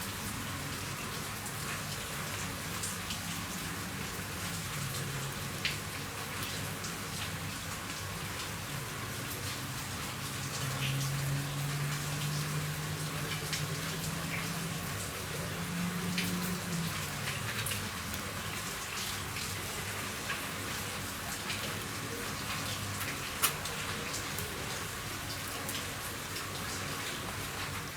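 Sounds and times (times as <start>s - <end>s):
rain on a roof: 0.0s - 27.9s.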